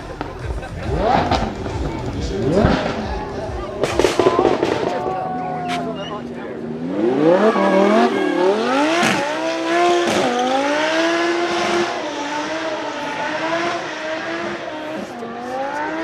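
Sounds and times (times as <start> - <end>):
car engine revving hard: 0.0 - 5.0, 6.6 - 16.0.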